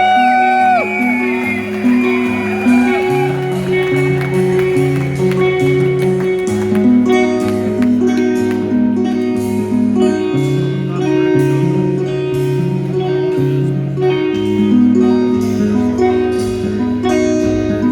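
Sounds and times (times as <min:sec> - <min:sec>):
guitar solo: 0:00.0 - 0:17.9.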